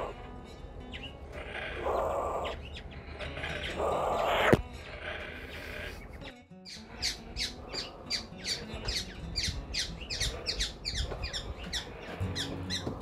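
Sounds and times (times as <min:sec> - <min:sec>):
bird squawking: 0:00.0 - 0:00.3, 0:00.9 - 0:13.0.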